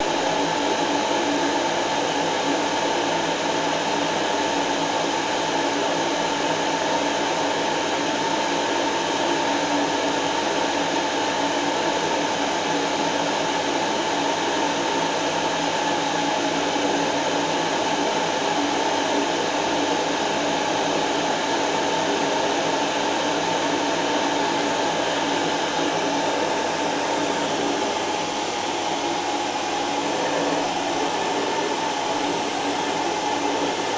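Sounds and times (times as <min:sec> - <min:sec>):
vacuum cleaner humming and whining: 0:00.0 - 0:33.9.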